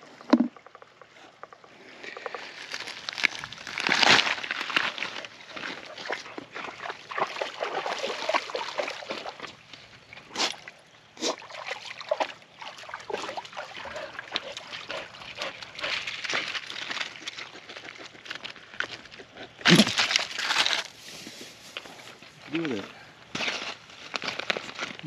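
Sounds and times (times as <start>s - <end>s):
creek water splashing and trickling: 0.0s - 25.0s.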